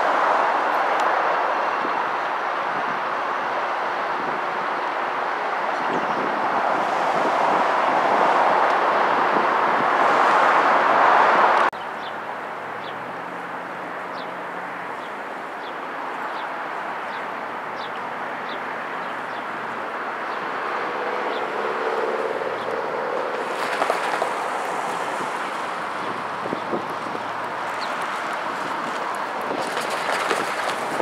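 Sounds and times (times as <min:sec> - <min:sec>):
diesel locomotives rushing: 0:00.0 - 0:31.0.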